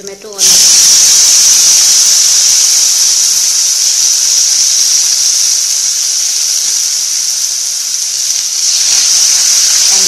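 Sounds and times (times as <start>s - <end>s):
tomato sizzling in hot oil: 0.0s - 10.0s.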